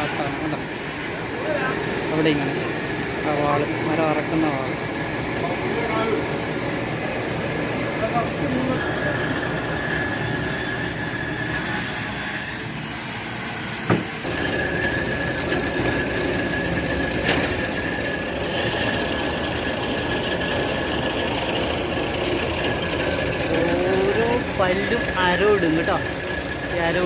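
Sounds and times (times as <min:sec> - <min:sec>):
sawmill machinery whine: 0:00.0 - 0:27.0.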